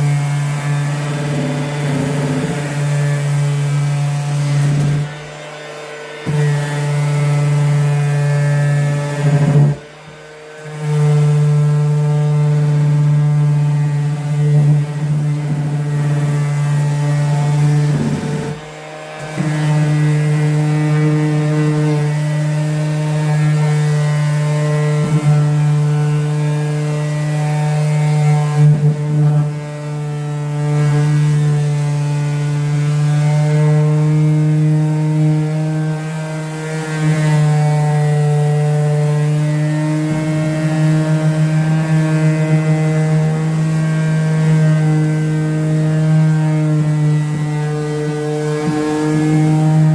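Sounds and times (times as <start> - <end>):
electric sander motor hum: 0.0 - 49.9.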